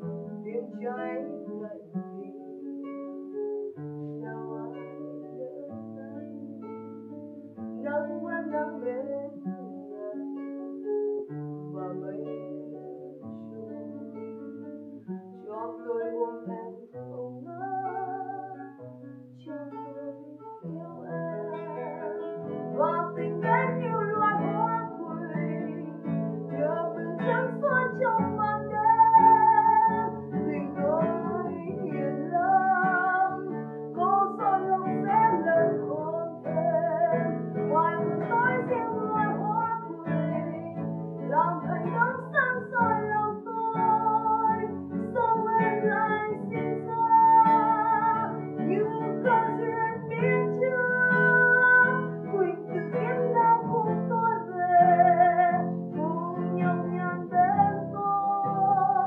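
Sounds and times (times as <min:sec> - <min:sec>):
woman singing: 0:00.0 - 0:06.8, 0:07.7 - 0:10.7, 0:11.7 - 0:59.0
nylon-string guitar: 0:00.0 - 0:59.0.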